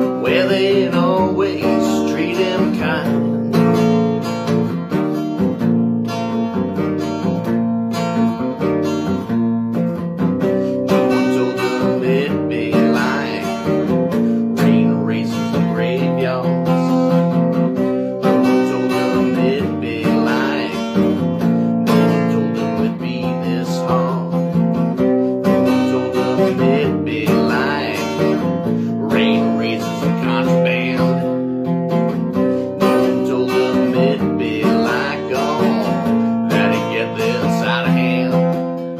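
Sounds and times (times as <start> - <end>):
acoustic guitar with bent notes: 0.0 - 38.9.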